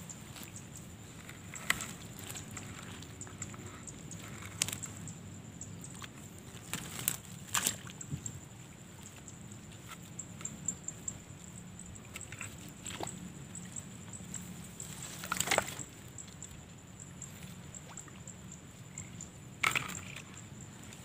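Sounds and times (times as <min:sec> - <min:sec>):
handling clicks and rustles: 0:00.0 - 0:16.6, 0:18.9 - 0:21.0.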